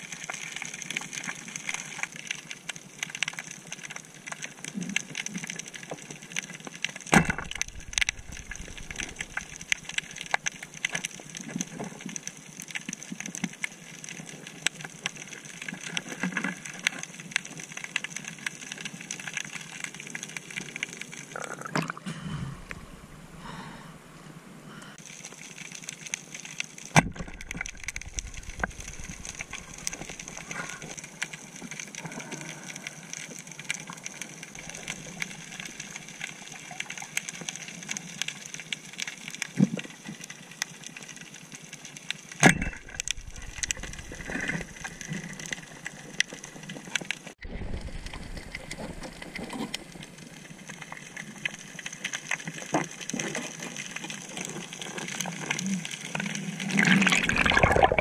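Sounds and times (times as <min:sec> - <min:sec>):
dense crackling clicks: 0:00.0 - 0:22.0, 0:24.9 - 0:58.0.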